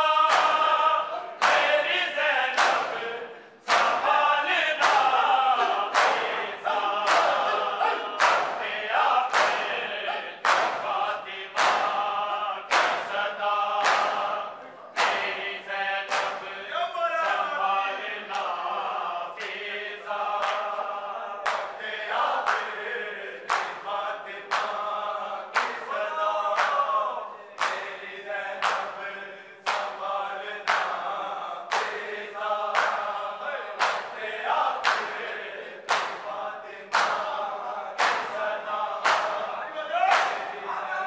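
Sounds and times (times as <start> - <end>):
men chanting together: 0.0 - 41.0
hands slapping chests: 0.1 - 16.6, 19.4 - 22.9, 23.5 - 27.0, 27.6 - 40.8.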